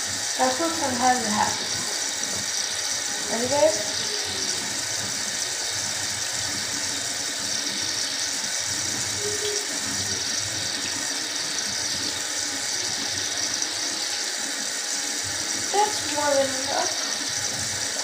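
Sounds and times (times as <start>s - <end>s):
faucet running water: 0.0s - 18.0s.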